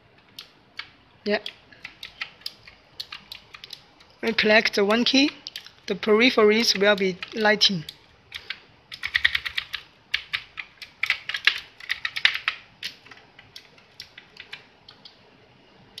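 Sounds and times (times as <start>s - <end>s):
mechanical keyboard clicking: 0.3s - 15.1s.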